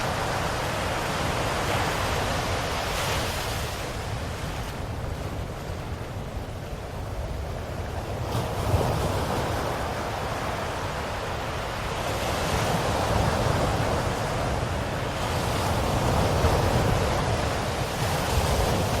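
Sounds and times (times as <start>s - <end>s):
ocean waves washing on shore: 0.0s - 19.0s.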